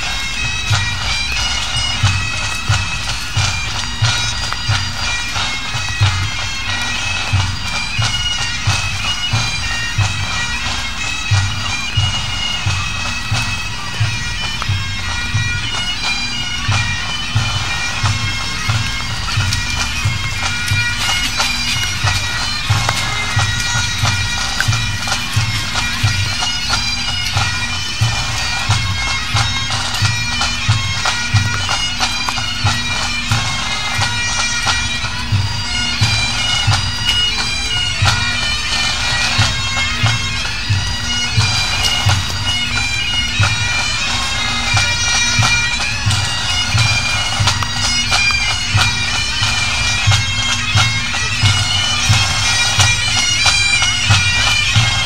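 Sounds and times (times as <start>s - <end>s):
bagpipes playing: 0.0s - 55.0s
marching drum beat: 0.0s - 55.0s.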